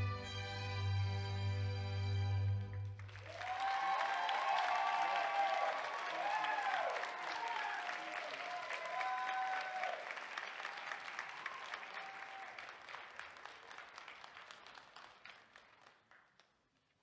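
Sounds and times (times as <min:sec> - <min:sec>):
audience applauding: 0:02.4 - 0:17.0.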